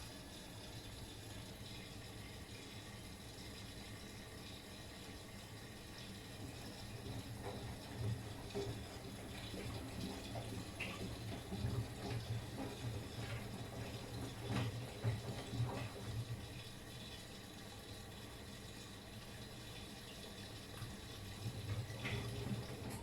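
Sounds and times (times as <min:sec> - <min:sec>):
washing machine hum: 0:00.0 - 0:23.0
water sloshing in drum: 0:02.7 - 0:17.4, 0:18.3 - 0:23.0.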